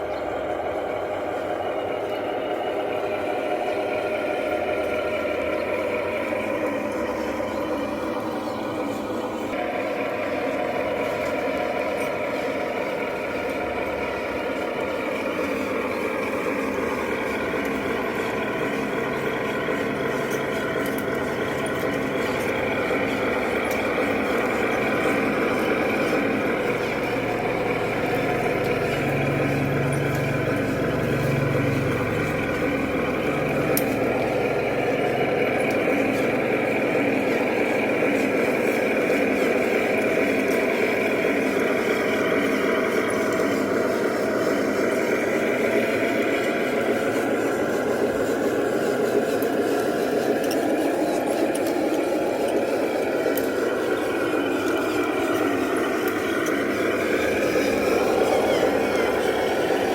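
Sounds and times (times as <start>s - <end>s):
remote-control truck drone: 0.0s - 59.9s.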